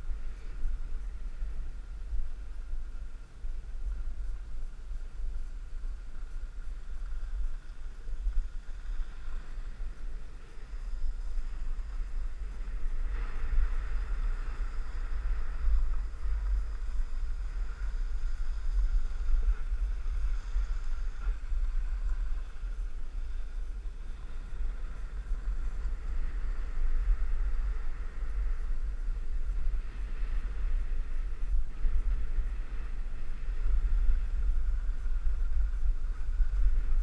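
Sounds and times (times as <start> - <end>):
skis sliding over snow: 0.0 - 37.0
wind buffeting microphone: 0.0 - 37.0.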